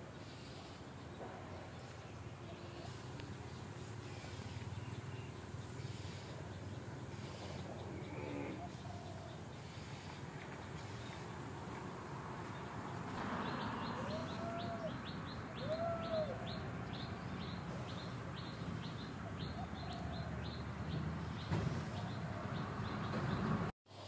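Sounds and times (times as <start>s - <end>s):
low arched bird calls: 1.8s - 11.7s, 12.5s - 23.6s.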